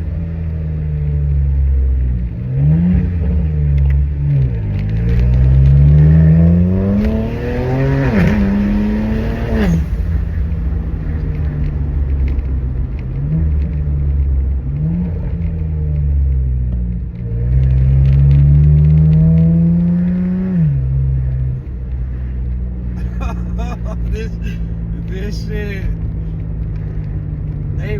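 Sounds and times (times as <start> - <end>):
car engine revving loud exhaust: 0.0 - 27.9.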